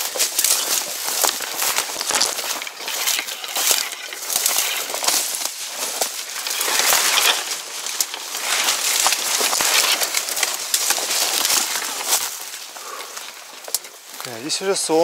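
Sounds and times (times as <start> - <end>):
footsteps through dense grass: 0.0 - 15.0.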